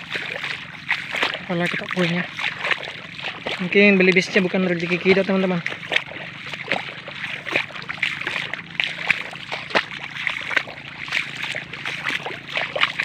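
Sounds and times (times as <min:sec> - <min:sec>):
footsteps splashing in muddy water: 0:00.0 - 0:13.0.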